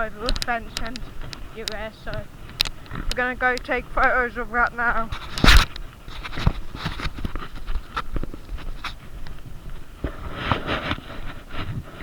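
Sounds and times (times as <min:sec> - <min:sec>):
footsteps and handling rustles: 0:00.0 - 0:12.0.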